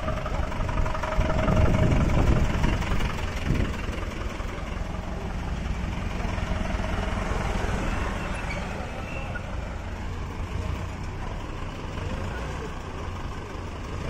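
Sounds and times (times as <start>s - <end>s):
street traffic: 0.0s - 14.0s
vehicle engine rumbling: 0.0s - 14.0s.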